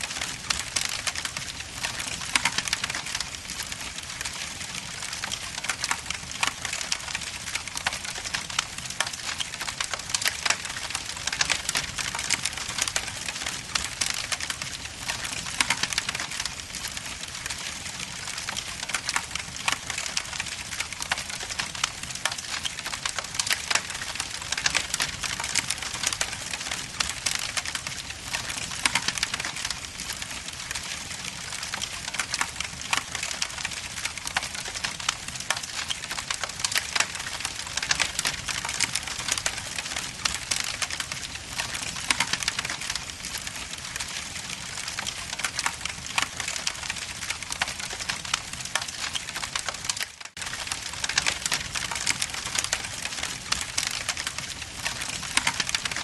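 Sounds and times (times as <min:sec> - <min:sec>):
fire crackling and hissing: 0:00.0 - 0:56.0.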